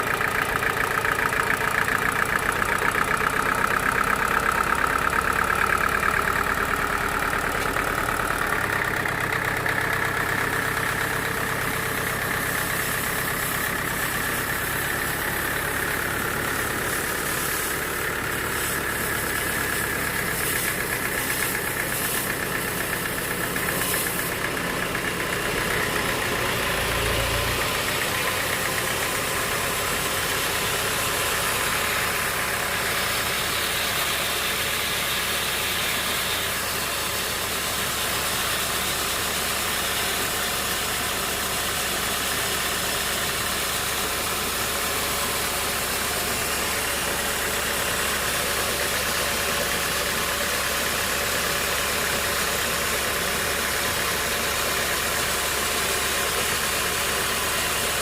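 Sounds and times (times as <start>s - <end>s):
sawmill engine drone: 0.0s - 58.0s.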